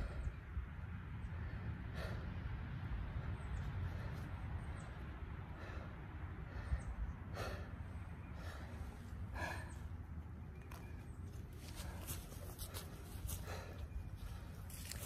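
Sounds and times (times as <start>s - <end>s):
person breathing hard: 0.0s - 10.2s, 11.7s - 15.0s.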